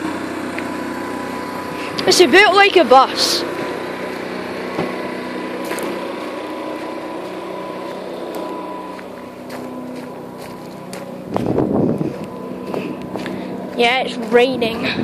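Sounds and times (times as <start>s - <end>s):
steady motor hum: 0.0s - 15.0s.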